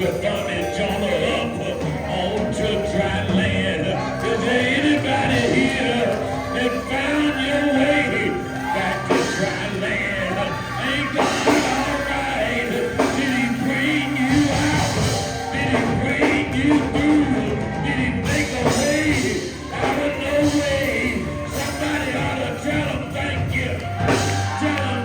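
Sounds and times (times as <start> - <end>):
church singing: 0.0 - 25.0
instrumental accompaniment with bass line: 0.0 - 25.0.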